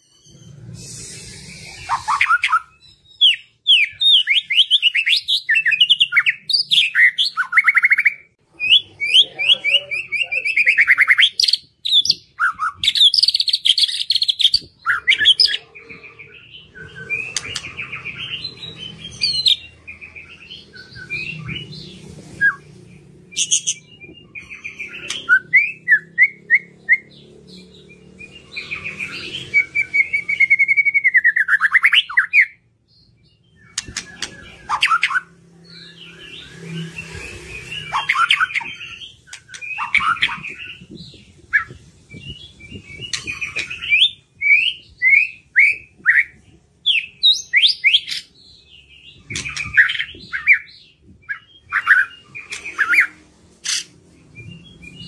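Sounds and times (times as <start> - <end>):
bird singing whistles and trills: 0.0 - 27.1, 27.8 - 55.0.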